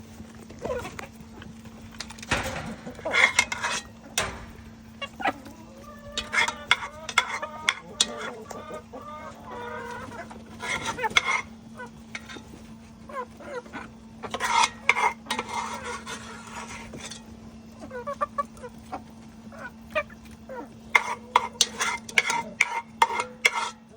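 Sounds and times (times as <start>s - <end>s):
chickens clucking: 0.0s - 23.9s
steady low hum: 0.0s - 23.9s.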